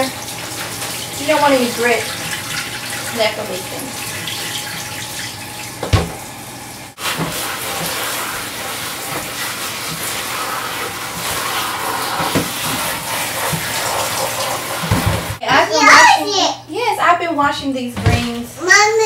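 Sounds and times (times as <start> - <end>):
kitchen tap running: 0.0 - 15.4.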